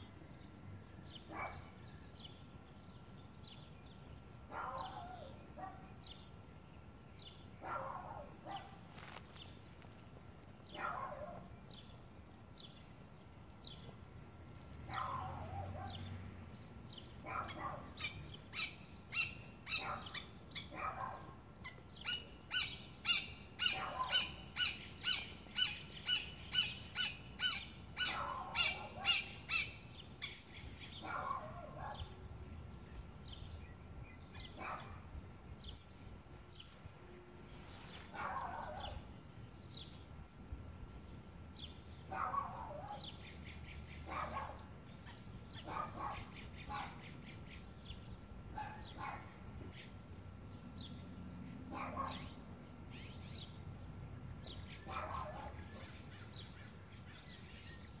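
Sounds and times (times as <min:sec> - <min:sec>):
songbirds calling: 0:00.0 - 0:58.0.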